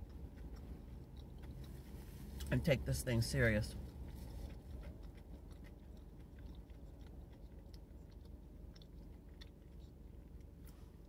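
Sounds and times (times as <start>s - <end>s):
low steady hum: 0.0s - 11.0s
person chewing food: 0.0s - 11.0s.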